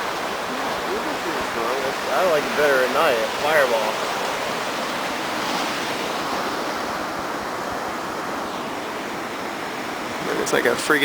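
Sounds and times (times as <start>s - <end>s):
beach surf: 0.0s - 11.0s.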